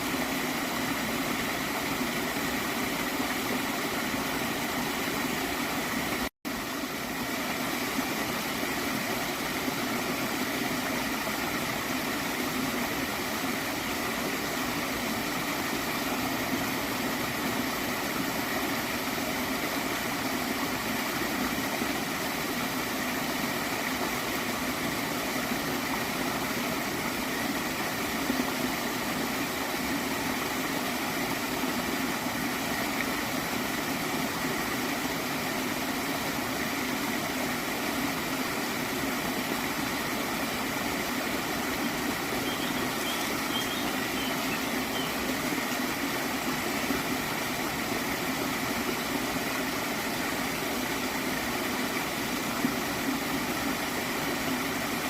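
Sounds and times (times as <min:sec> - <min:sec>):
stream water gurgling: 0:00.0 - 0:55.0.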